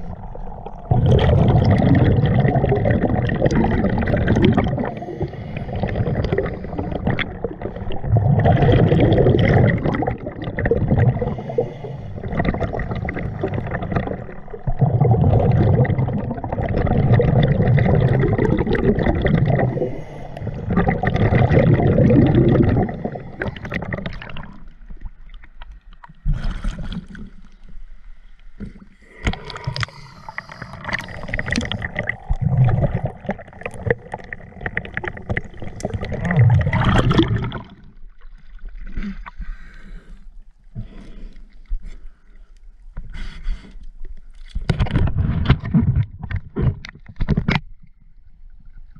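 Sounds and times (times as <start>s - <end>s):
water sloshing and gurgling: 0.0s - 48.9s.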